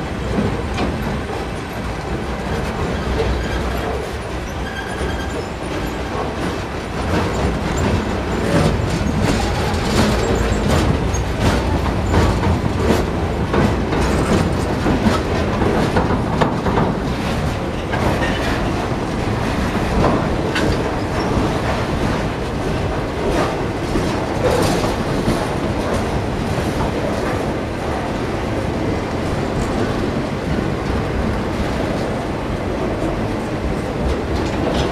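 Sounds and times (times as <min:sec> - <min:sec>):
clanks over rail joints: 0:00.0 - 0:34.9
train wheels rumbling on rails: 0:00.0 - 0:34.9.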